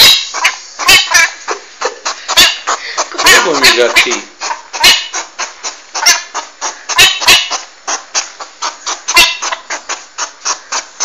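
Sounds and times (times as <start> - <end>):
porcupine squeaky grunts and clicks: 0.0 - 11.0.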